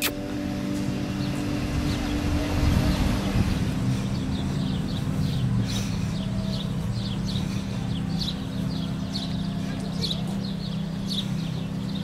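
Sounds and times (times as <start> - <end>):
birds chirping: 0.0 - 12.0
low hum: 0.0 - 12.0
wind rumble on microphone: 0.1 - 9.8.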